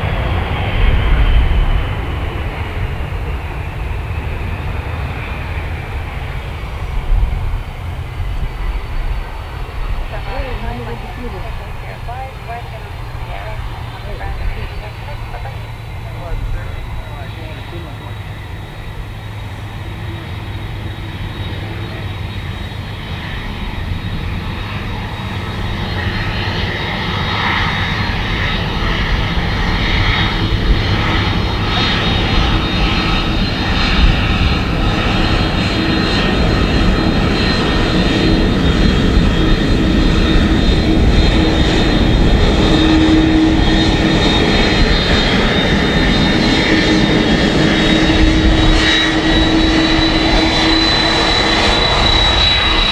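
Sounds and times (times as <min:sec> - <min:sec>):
jet airliner engines on approach: 0:00.0 - 0:52.9.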